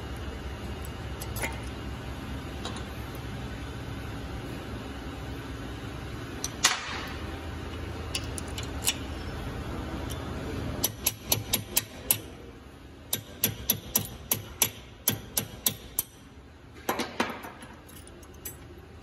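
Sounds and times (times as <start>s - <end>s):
workshop hum: 0.0s - 19.0s.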